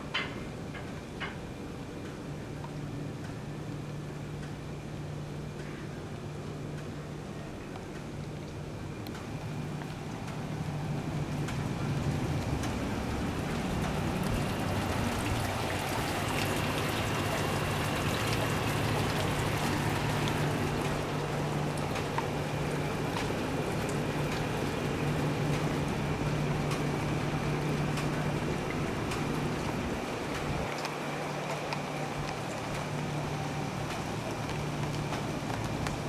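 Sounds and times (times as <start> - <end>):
low steady hum: 0.0 - 36.0
sharp drips ticking: 0.0 - 36.0
steady rain: 0.0 - 36.0.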